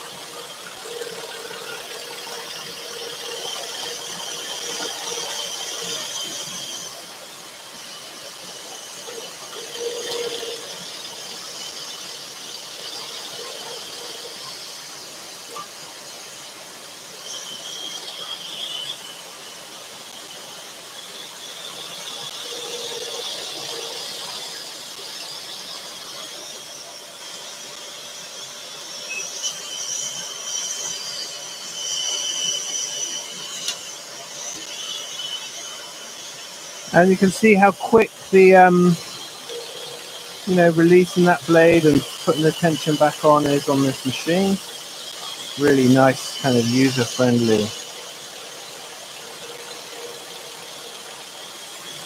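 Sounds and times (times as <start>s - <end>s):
scroll saw whining: 0.0s - 52.0s.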